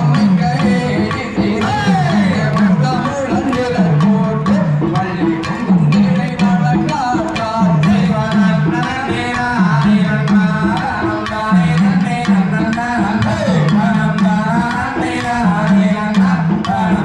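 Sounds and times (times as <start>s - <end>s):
hand drum rhythm: 0.0s - 17.0s
repeated folk melody: 0.0s - 17.0s.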